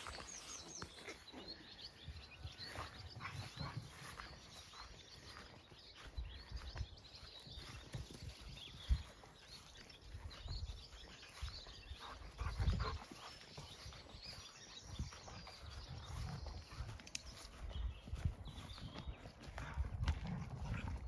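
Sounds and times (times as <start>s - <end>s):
footsteps on grass: 0.0s - 21.0s.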